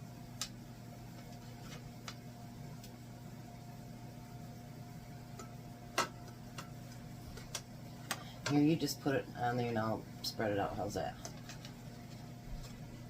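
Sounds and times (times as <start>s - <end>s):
kitchen appliance humming: 0.0s - 13.0s.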